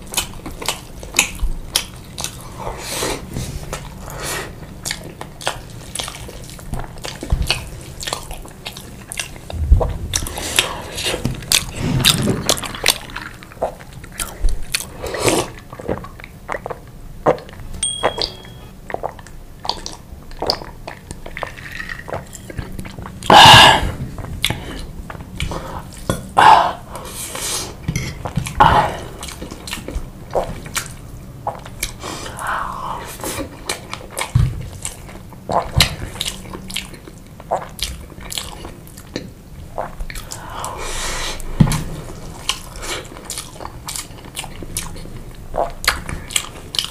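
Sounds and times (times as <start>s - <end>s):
close chewing and wet mouth sounds: 0.0s - 46.9s.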